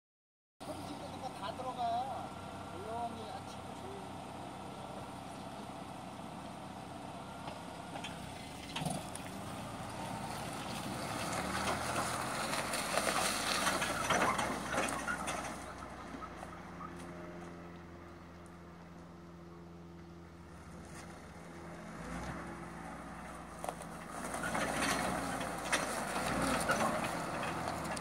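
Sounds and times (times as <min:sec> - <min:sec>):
small truck engine running: 0:00.6 - 0:28.0.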